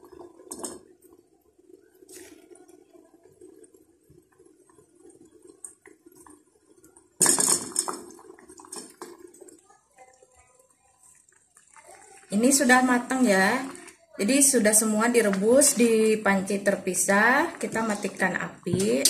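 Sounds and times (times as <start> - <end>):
syrup simmering and bubbling: 0.0 - 19.0.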